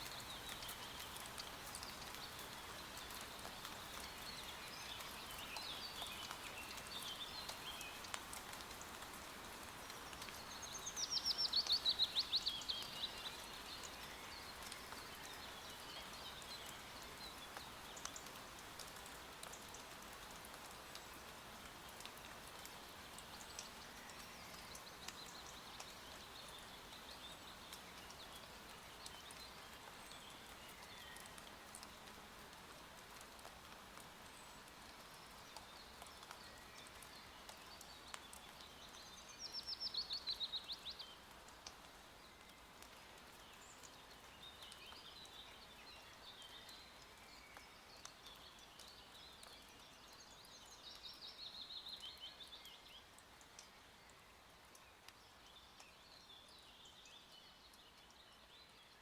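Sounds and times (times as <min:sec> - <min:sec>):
light rain hiss: 0:00.0 - 0:59.0.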